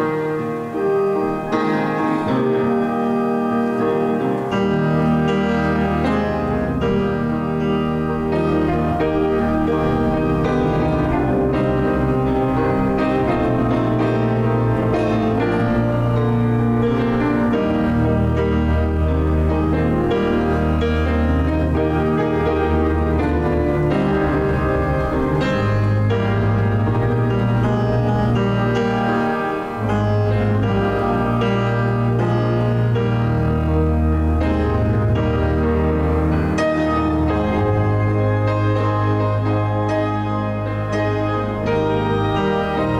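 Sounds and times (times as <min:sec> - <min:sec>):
instrumental piano music: 0:00.0 - 0:42.9.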